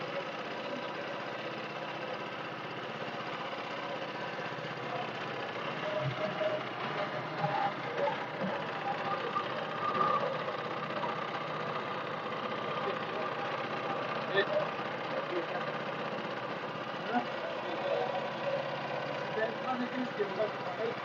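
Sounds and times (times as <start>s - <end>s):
small boat engine running: 0.0s - 21.0s.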